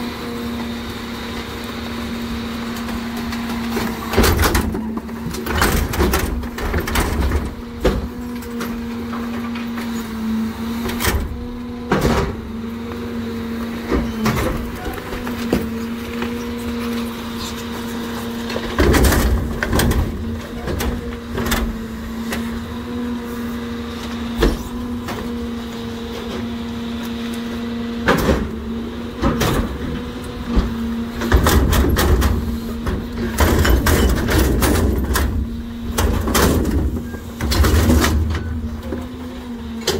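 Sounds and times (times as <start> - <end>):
garbage truck humming: 0.0 - 39.9
trash banging and clattering: 2.6 - 23.1, 27.4 - 39.9.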